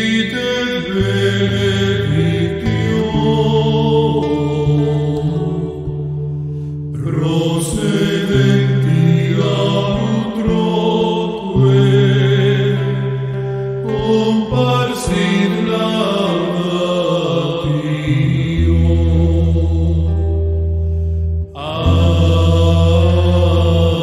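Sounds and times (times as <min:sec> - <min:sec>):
slow sacred music with held chords: 0:00.0 - 0:24.0.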